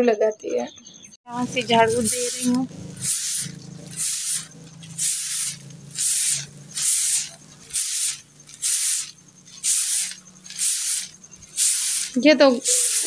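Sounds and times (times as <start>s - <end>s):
broom sweeping concrete floor: 2.0s - 13.0s.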